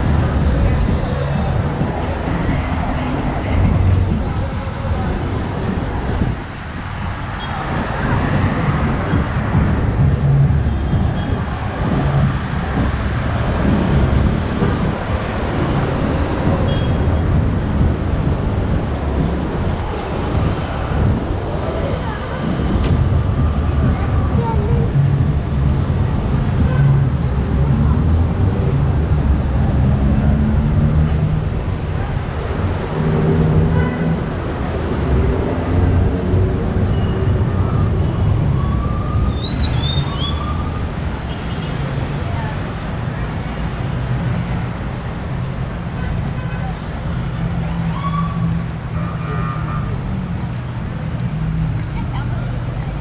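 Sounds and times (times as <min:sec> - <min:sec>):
traffic rumble: 0:00.0 - 0:53.0
vehicles passing: 0:00.0 - 0:53.0.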